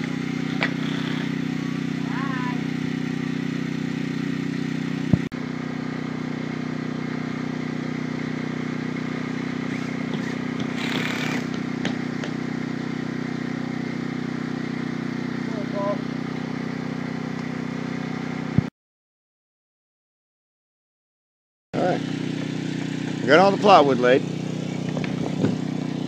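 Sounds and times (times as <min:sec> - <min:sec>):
engine humming: 0:00.0 - 0:18.7, 0:21.8 - 0:26.0.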